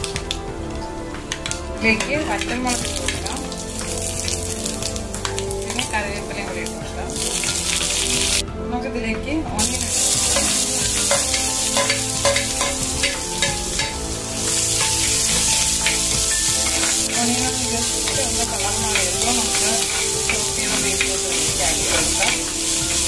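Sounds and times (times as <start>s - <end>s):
onion sizzling in hot oil: 0.0s - 8.4s, 9.6s - 23.0s.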